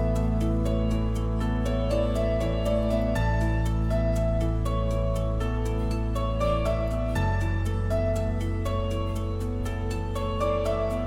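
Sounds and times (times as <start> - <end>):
soft new-age music: 0.0 - 11.0.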